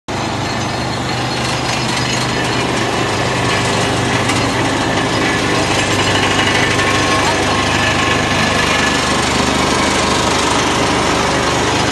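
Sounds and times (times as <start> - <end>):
machine motor humming: 0.1 - 11.9.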